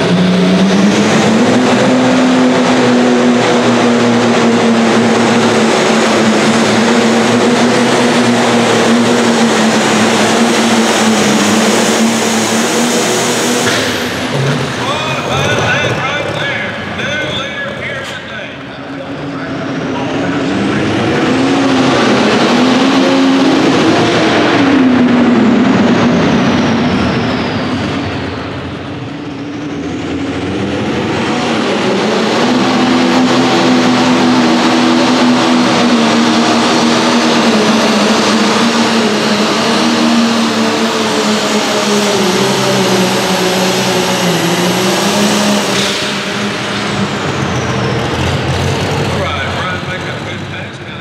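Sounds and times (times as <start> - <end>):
diesel tractor engine under load: 0.0 - 51.0.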